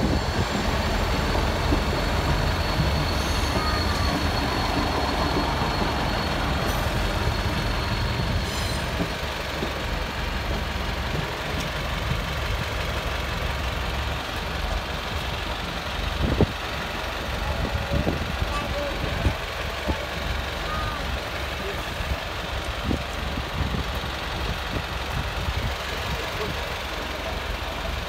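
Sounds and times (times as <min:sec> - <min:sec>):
train wheels and engines rumbling: 0:00.0 - 0:28.0.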